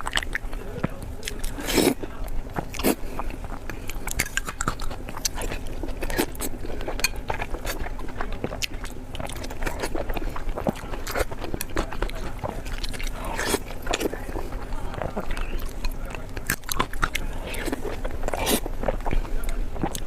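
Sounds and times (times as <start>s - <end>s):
chewing and biting food: 0.0s - 20.0s.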